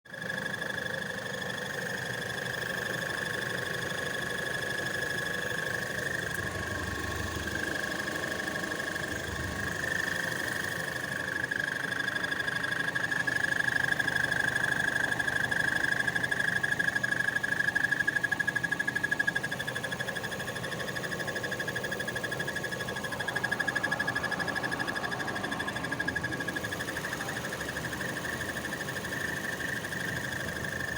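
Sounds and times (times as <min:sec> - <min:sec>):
car engine running: 0:00.1 - 0:30.9.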